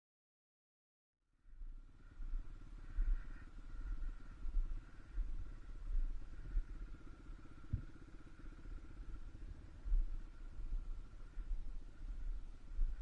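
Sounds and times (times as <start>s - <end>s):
faint steady whine: 1.3s - 13.0s
low uneven rumbles: 1.6s - 13.0s
off-road vehicle engine running: 1.6s - 13.0s.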